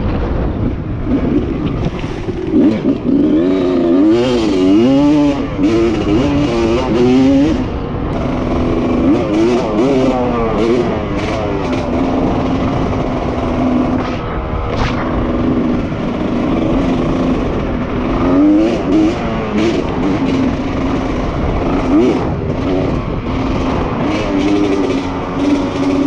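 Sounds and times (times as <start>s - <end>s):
dirt bike engine revving: 1.0s - 26.0s.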